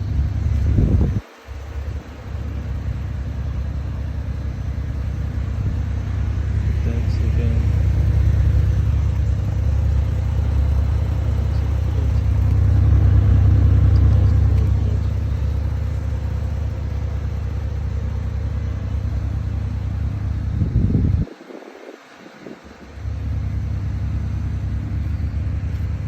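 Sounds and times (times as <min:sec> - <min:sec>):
low car rumble: 0:00.0 - 0:26.0.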